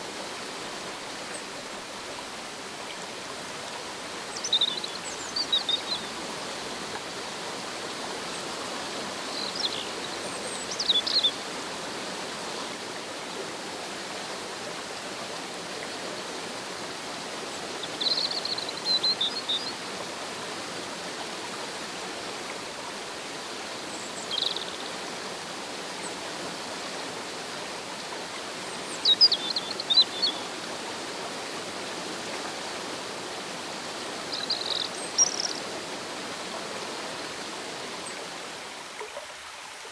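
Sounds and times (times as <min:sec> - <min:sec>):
river rushing over waterfall: 0:00.0 - 0:39.9.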